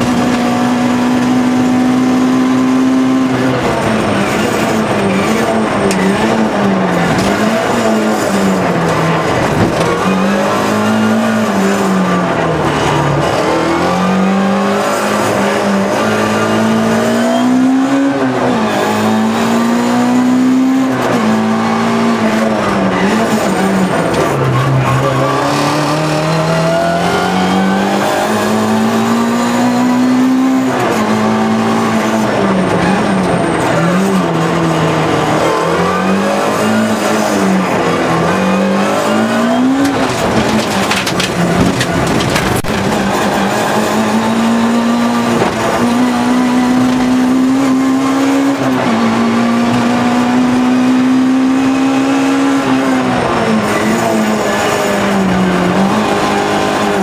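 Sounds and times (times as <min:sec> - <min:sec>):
car engine revving: 0:00.0 - 0:57.0
rattling and tyre noise: 0:00.0 - 0:57.0.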